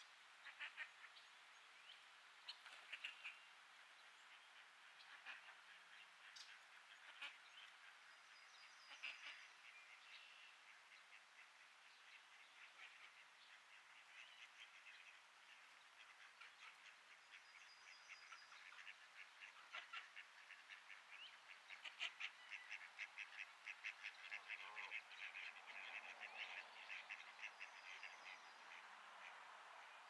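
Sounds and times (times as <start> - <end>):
faint duck quacking: 0.4 - 1.3, 2.4 - 30.0.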